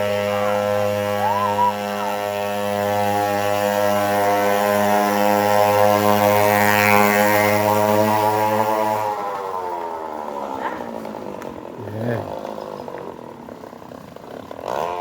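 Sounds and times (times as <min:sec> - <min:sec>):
small two-stroke engine running: 0:00.0 - 0:15.0.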